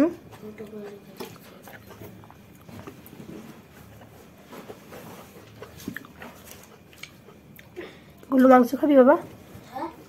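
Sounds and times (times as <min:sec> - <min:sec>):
person chewing and lip smacking: 0:00.2 - 0:08.3.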